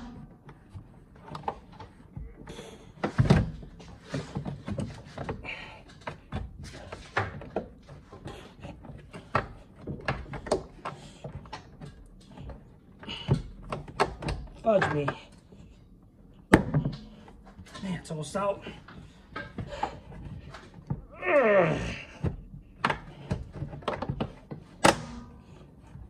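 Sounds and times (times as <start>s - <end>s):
plastic knocks and creaks: 0.0s - 15.8s, 16.4s - 26.0s.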